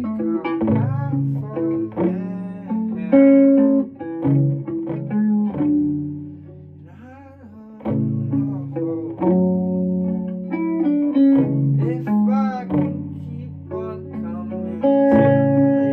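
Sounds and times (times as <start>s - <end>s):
guitar playing: 0.0s - 15.9s.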